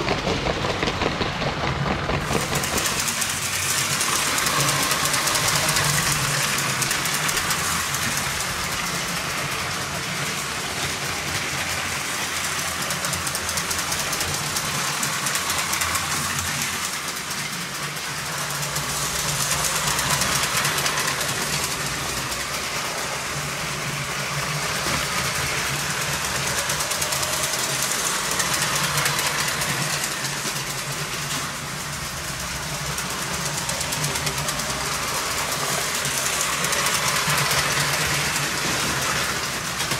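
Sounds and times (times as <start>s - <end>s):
plastic wheels rattling over track: 0.0s - 39.9s
toy train motors whirring: 0.0s - 39.9s.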